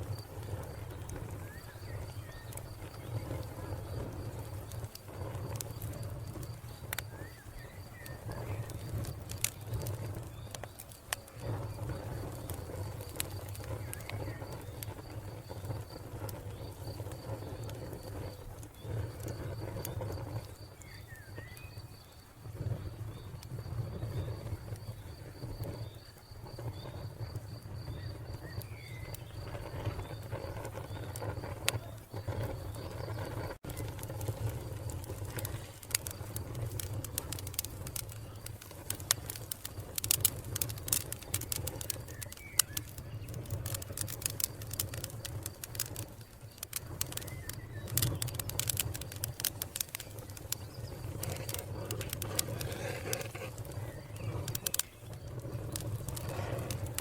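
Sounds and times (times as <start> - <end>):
cricket chirping: 0.0 - 56.9
wood fire crackling: 0.0 - 57.0.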